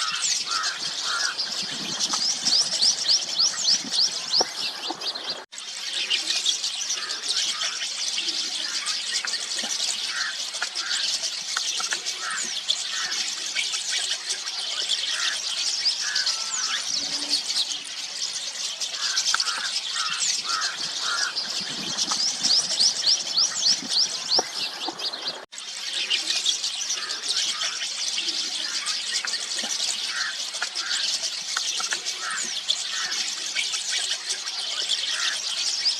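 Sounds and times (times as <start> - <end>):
flock of starlings chattering: 0.0 - 35.9.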